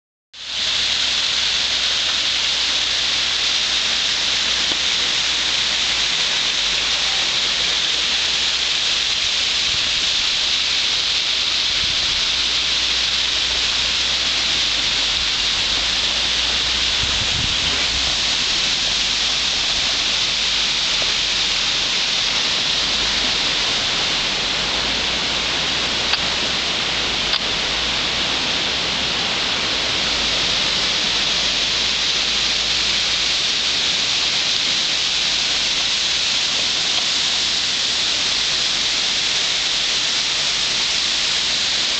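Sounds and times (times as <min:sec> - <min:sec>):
waterfall rushing: 0:00.4 - 0:41.9.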